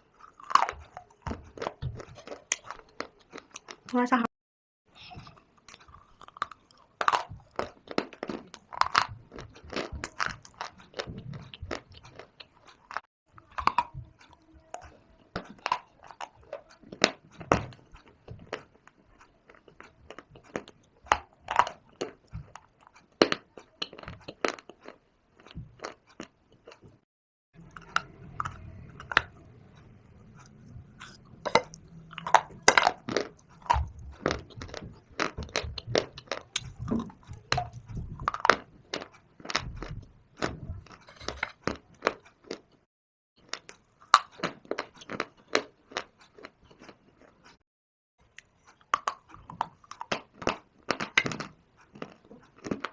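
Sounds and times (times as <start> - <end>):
chewing hard clay crunches: 0.0 - 4.0, 5.0 - 27.0, 27.6 - 47.6, 48.2 - 52.9.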